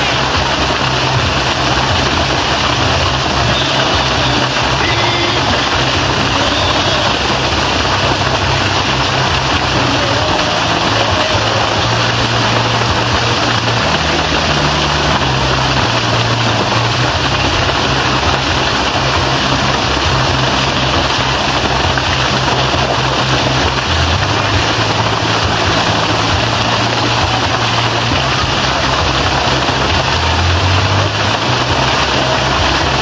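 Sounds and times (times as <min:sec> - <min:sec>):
waterfall rushing onto rocks: 0:00.0 - 0:33.0.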